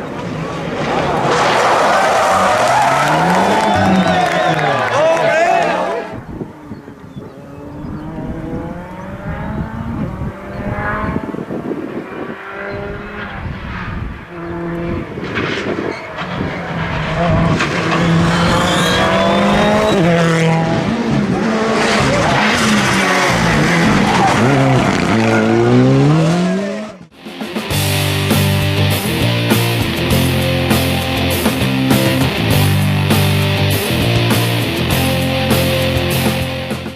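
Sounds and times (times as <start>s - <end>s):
rally car engine revving: 0.0s - 36.9s.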